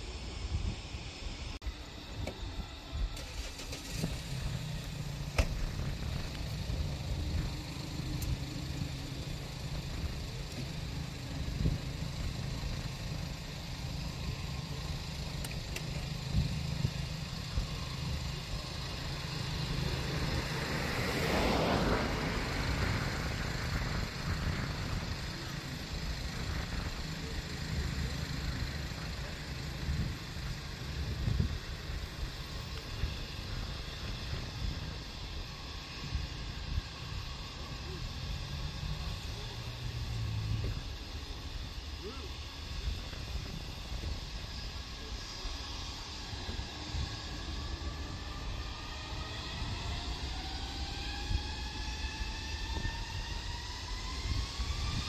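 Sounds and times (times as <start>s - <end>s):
jet engines taxiing: 0.0s - 55.0s.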